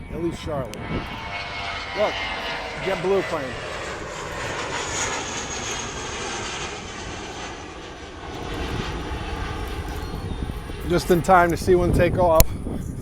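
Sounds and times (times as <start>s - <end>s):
jet airliner taking off: 0.0s - 13.0s
wind on microphone: 0.0s - 13.0s.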